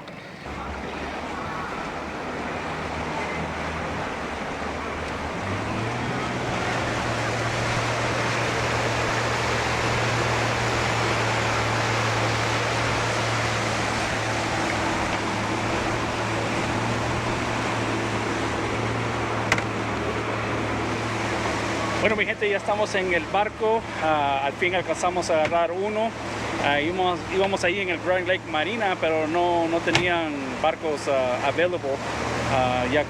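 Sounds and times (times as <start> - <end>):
motorboat engine: 0.0 - 33.0
rushing water and wind: 0.0 - 33.0.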